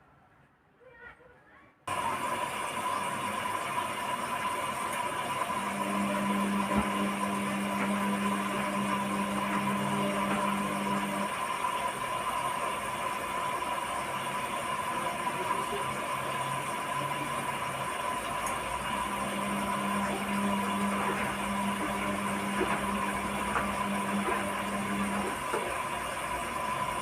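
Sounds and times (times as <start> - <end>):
low motor hum: 1.9 - 27.0
washing machine humming: 1.9 - 27.0.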